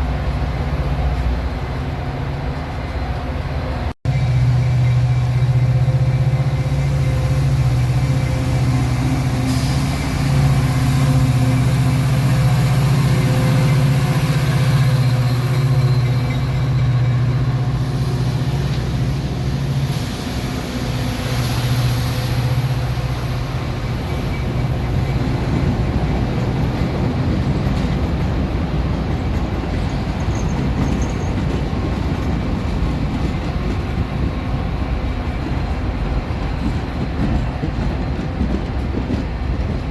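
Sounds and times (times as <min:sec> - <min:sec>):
diesel locomotive drone: 0:00.0 - 0:39.9
train cars rumbling by: 0:00.0 - 0:39.9.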